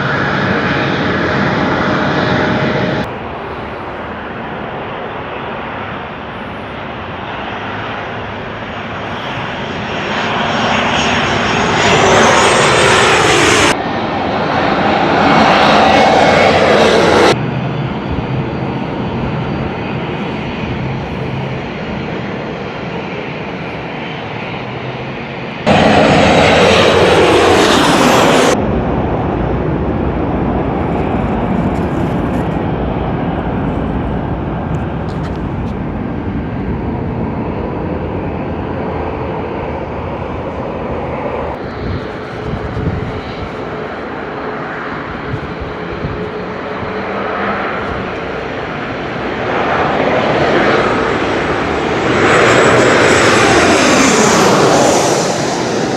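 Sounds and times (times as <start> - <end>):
airliner engines passing: 0.0 - 55.9.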